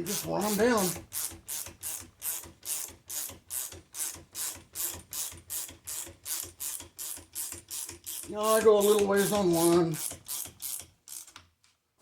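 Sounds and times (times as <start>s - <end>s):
ratchet wrench clicking: 0.2s - 11.4s.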